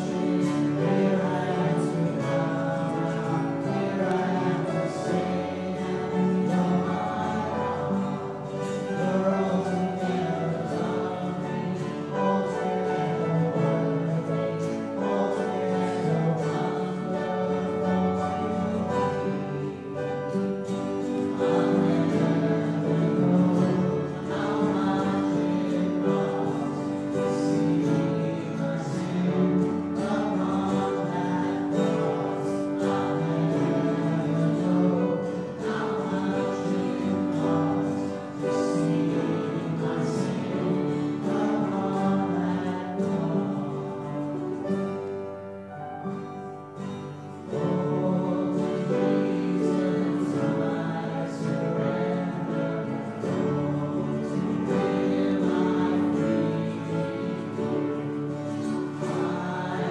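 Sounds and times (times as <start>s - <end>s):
instrumental accompaniment: 0.0s - 59.9s
voices singing a worship song: 0.0s - 59.9s.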